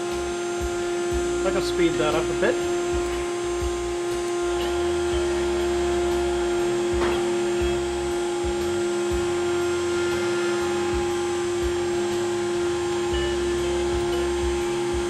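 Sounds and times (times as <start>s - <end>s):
axis motors moving: 0.0s - 15.0s
router spindle whining: 0.0s - 15.0s.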